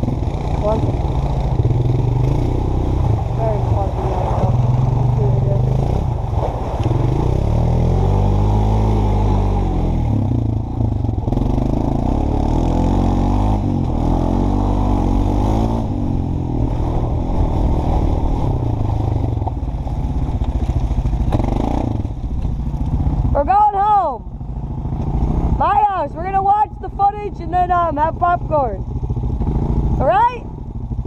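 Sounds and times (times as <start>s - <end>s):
atv engine running under load: 0.0s - 31.0s.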